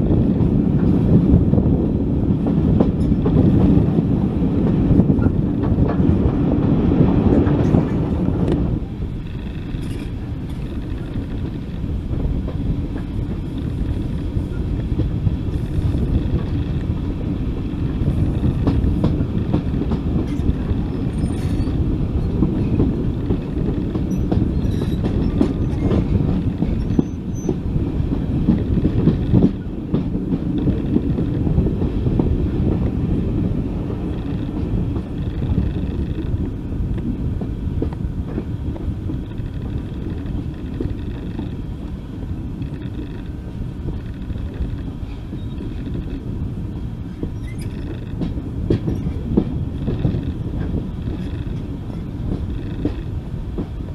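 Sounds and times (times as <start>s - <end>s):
train rumbling on track: 0.0s - 53.9s
wheels clicking over rail joints: 0.0s - 53.9s.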